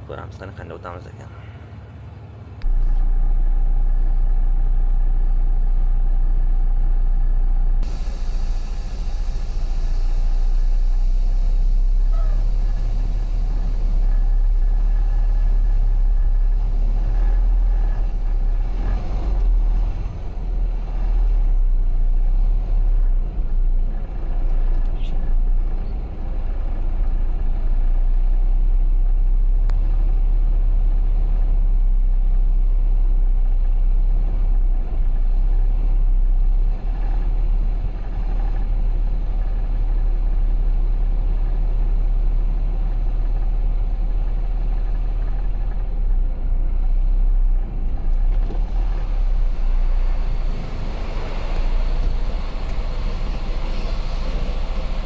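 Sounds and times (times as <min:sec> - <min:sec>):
truck diesel engine rumbling: 0:00.0 - 0:55.0.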